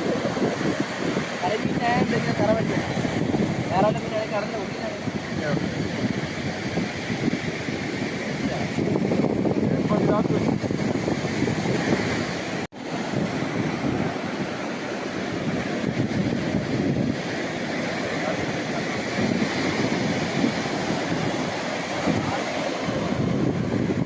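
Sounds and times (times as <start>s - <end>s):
sea surf washing on shore: 0.0s - 24.0s
wind buffeting microphone: 0.0s - 24.0s.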